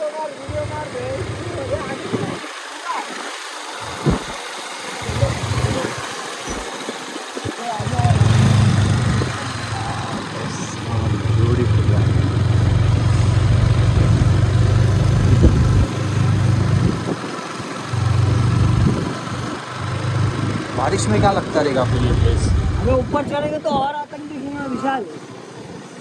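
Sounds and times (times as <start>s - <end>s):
motorcycle engine running: 0.0s - 23.5s.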